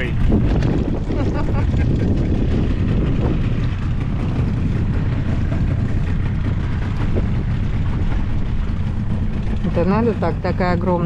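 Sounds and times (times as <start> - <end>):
boat through choppy water: 0.0 - 11.0
outboard motor running: 0.0 - 11.0.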